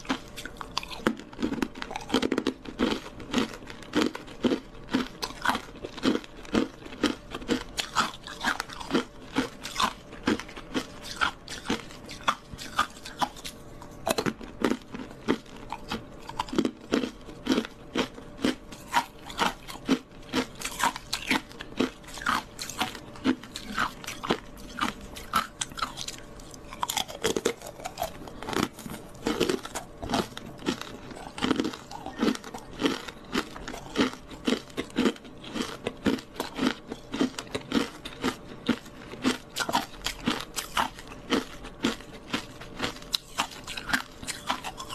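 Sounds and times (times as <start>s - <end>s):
teeth crunching ice: 0.0s - 44.9s.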